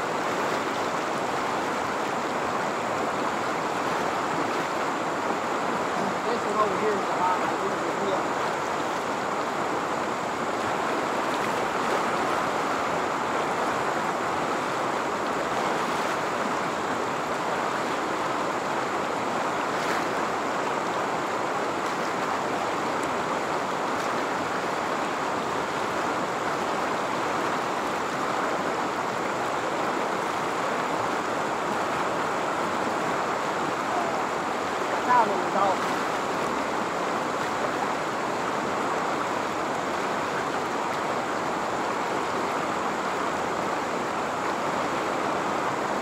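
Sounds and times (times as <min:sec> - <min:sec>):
river rapids flowing over rocks: 0:00.0 - 0:46.0.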